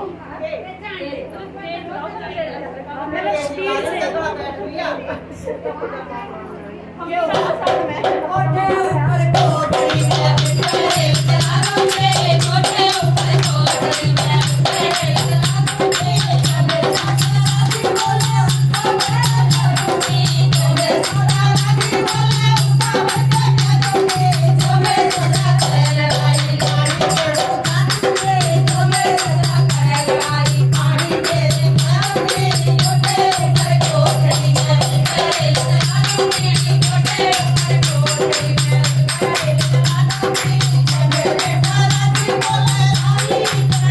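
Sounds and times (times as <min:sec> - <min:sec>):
jingling rattling percussion: 0:07.4 - 0:43.9.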